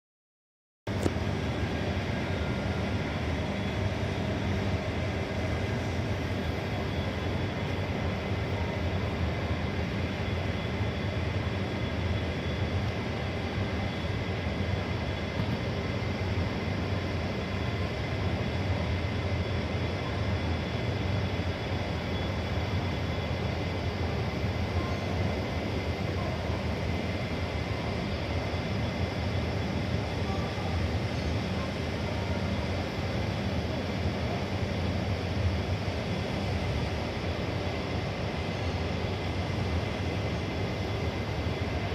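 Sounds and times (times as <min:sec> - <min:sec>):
faint whining tones: 0:00.9 - 0:41.9
mechanical drone with low hum: 0:00.9 - 0:41.9.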